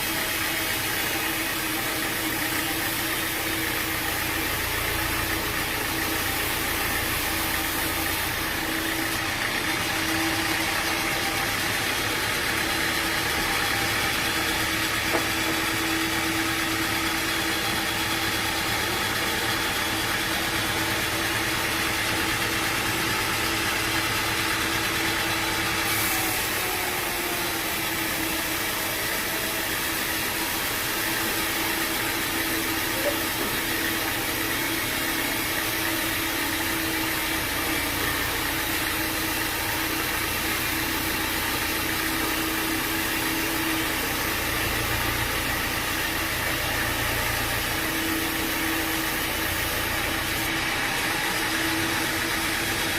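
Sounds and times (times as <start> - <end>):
sawmill machinery drone: 0.0 - 52.9.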